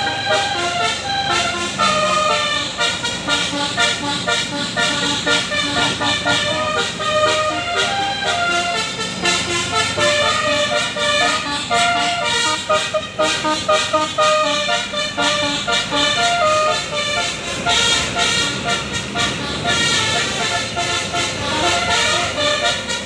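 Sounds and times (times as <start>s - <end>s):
multi-trumpet air horn melody: 0.0s - 23.0s.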